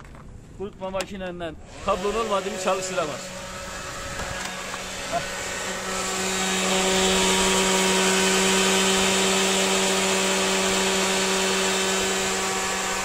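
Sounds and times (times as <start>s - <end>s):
hair dryer running: 1.7s - 13.0s.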